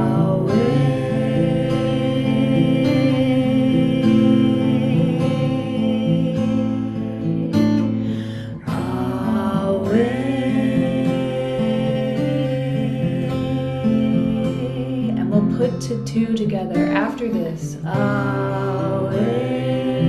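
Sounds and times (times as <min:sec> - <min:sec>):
acoustic guitar strumming: 0:00.0 - 0:20.0
chanting voice: 0:00.0 - 0:20.0.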